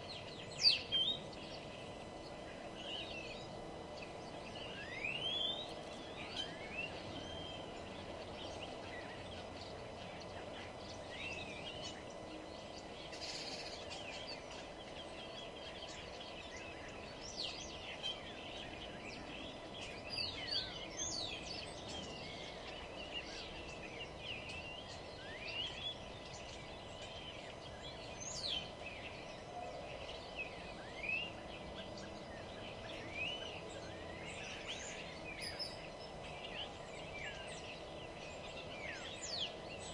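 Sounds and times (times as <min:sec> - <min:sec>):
low background hum: 0:00.0 - 0:39.9
small birds chirping: 0:00.0 - 0:39.9.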